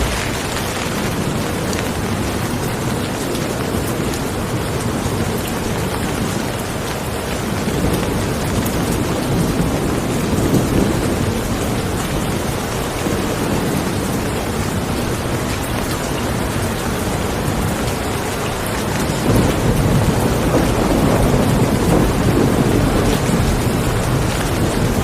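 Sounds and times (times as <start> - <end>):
steady rain falling: 0.0 - 25.0
thunder rumbling: 0.0 - 25.0.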